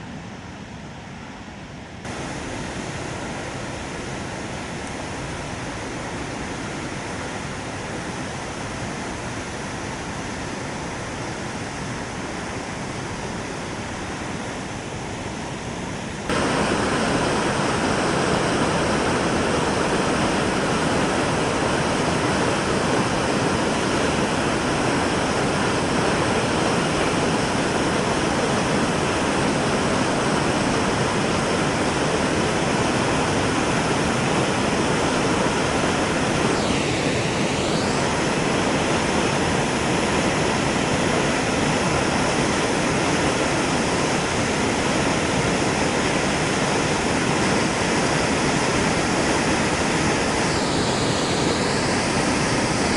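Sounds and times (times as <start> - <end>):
waterfall rushing: 2.1 - 14.8, 15.4 - 52.9.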